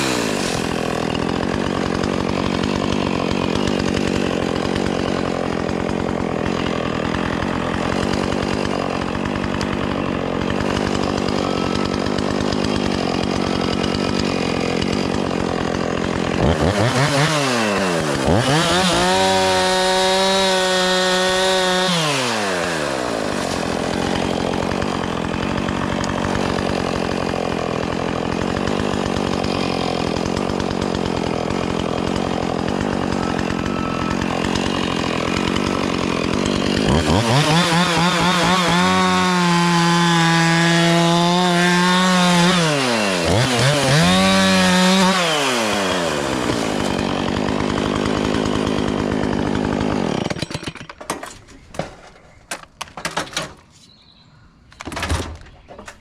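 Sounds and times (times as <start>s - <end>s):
chainsaw idling and revving: 0.0s - 51.0s.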